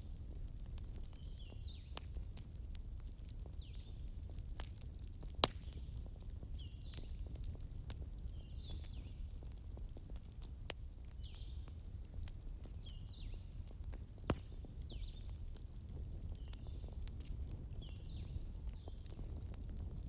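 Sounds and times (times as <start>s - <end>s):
sharp pops from fire: 0.0s - 20.0s
wood fire crackling: 0.0s - 20.0s.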